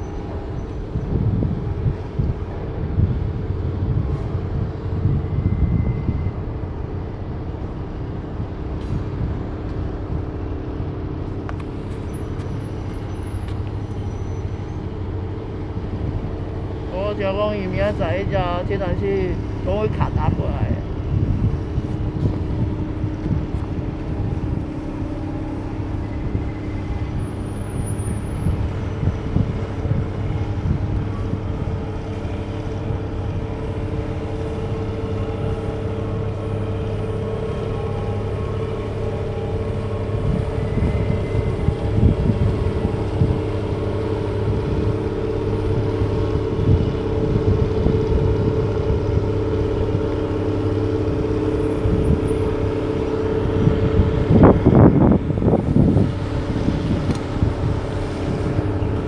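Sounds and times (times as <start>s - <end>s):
wind on microphone: 0.0s - 12.9s, 14.8s - 59.0s
boat diesel engine droning: 0.0s - 59.0s.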